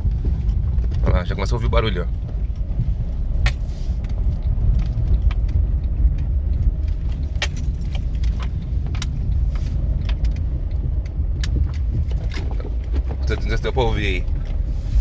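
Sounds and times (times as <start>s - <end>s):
suspension clicks and knocks: 0.0s - 14.7s
road rumble inside car: 0.0s - 15.0s.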